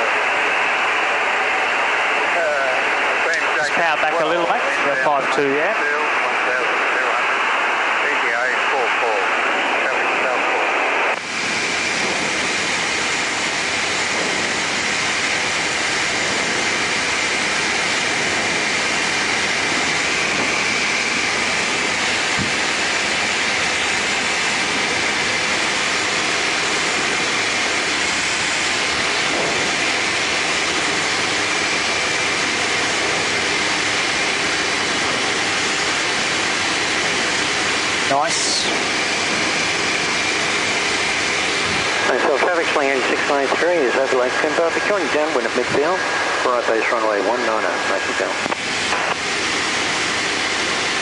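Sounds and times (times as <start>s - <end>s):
aircraft engine and propeller drone: 0.0s - 51.0s.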